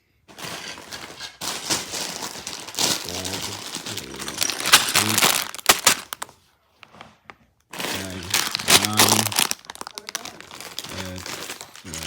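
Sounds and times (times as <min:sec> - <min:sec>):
plastic bags crinkling: 0:00.0 - 0:12.0
plastic bricks rattling: 0:00.3 - 0:06.3, 0:07.7 - 0:12.0.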